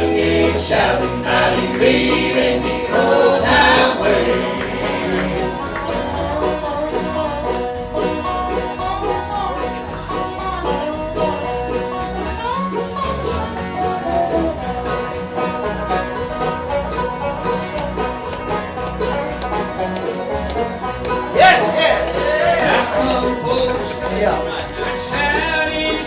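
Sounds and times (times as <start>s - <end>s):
string band playing: 0.0s - 26.0s.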